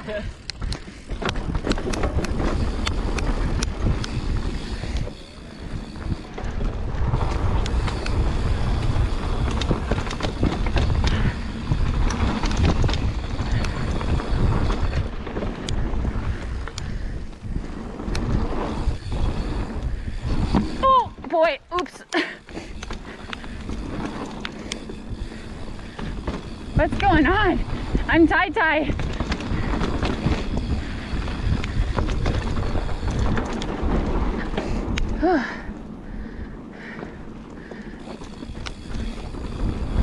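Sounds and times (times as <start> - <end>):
wind buffeting microphone: 0.0 - 21.3, 22.7 - 40.0
tyres rumbling over dirt: 0.0 - 21.6, 22.6 - 36.0
bike clicks and rattles: 0.0 - 40.0.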